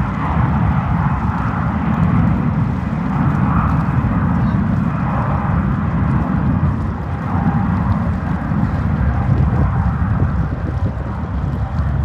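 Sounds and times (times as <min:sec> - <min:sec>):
jet engine deep rumble: 0:00.0 - 0:12.0.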